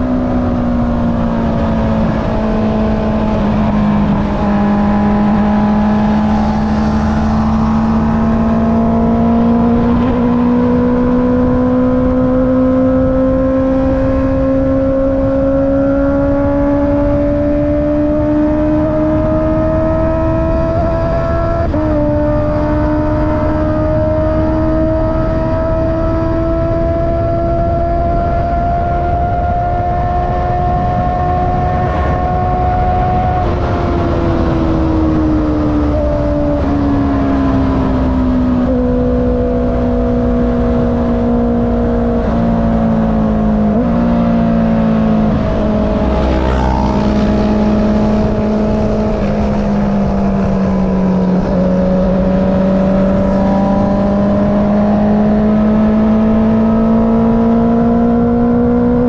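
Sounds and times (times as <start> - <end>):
low wind rumble: 0.0 - 59.0
motorcycle engine: 0.0 - 59.0.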